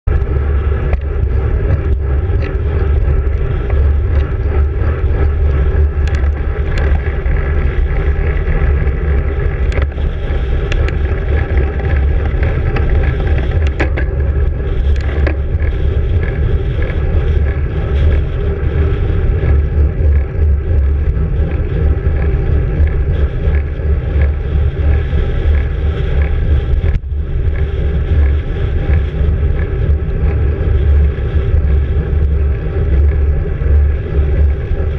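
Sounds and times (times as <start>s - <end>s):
tyre and road noise: 0.0s - 34.9s
wind buffeting microphone: 0.0s - 34.9s.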